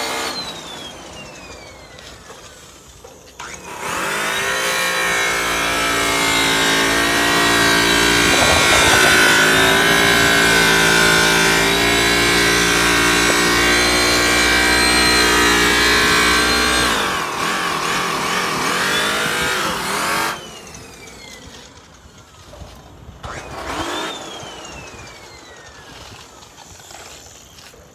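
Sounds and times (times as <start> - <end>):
sander whining: 0.0 - 27.8.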